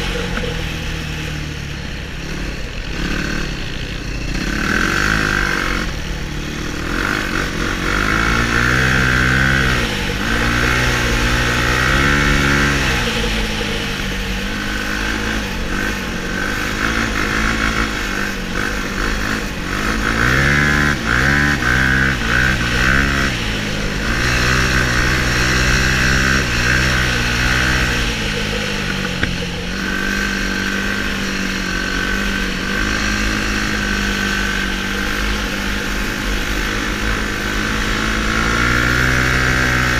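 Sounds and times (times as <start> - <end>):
steady high whine: 0.0 - 39.0
quad engine revving: 0.0 - 39.9.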